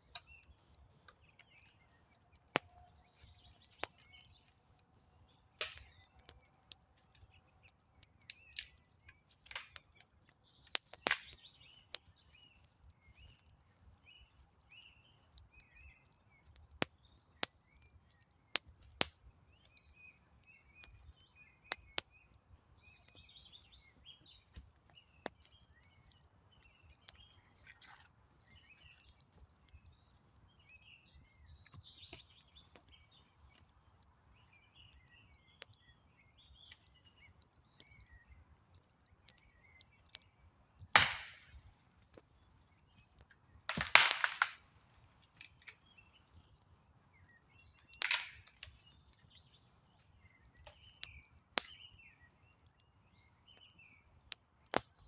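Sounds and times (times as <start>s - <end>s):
birds chirping faintly: 0.0s - 55.0s
campfire crackling: 0.0s - 55.0s.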